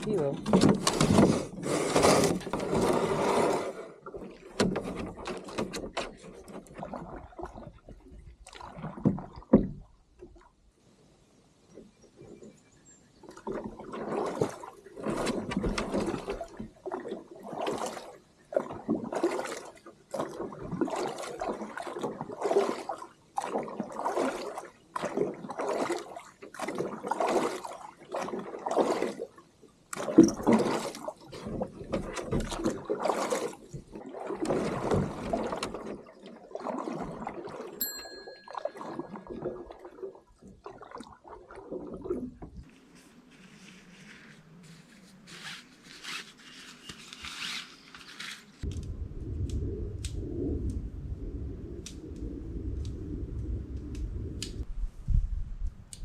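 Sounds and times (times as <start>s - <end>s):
water sloshing and splashing: 0.0s - 10.8s, 11.6s - 54.7s.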